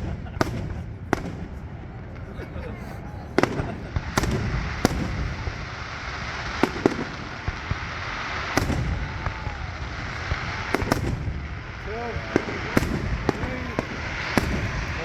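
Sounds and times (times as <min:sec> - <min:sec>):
sharp firework bangs: 0:00.0 - 0:01.8, 0:03.4 - 0:15.0
fireworks rumbling and crackling: 0:00.0 - 0:15.0.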